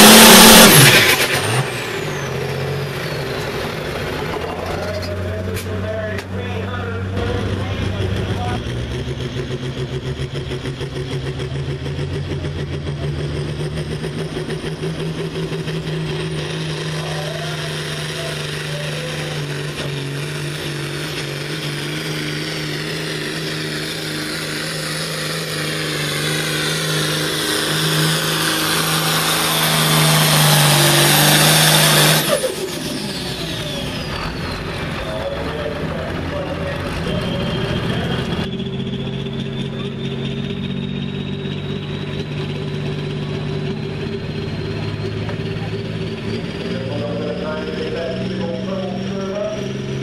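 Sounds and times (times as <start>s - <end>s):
high turbo whine: 0.0s - 50.0s
tractor diesel engine at full throttle: 0.0s - 50.0s.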